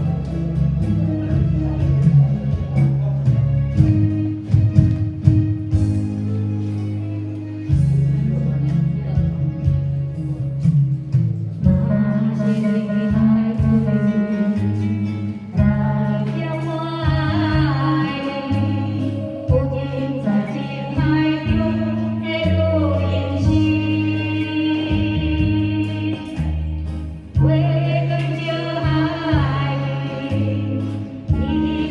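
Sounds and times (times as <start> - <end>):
karaoke backing music: 0.0 - 31.9.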